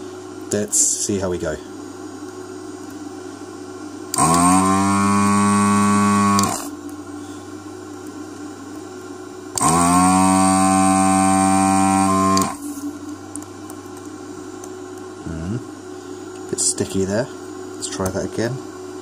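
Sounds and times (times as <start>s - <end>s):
low steady hum: 0.0s - 19.0s
vacuum pump running: 0.0s - 19.0s.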